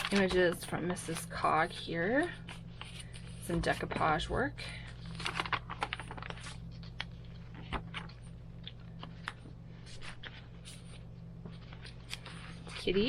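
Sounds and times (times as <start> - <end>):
paper pages rustling: 0.0 - 4.2, 4.8 - 13.0
steady low hum: 0.0 - 13.0.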